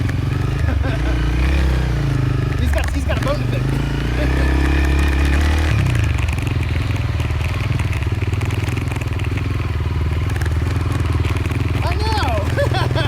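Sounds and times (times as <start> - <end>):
motorcycle engine chugging: 0.0 - 13.0.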